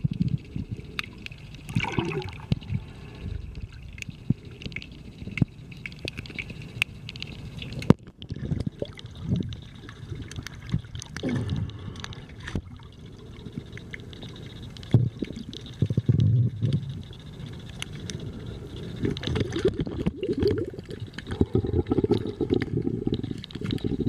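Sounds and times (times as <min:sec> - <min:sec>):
underwater sloshing and gurgling: 0:00.0 - 0:24.0.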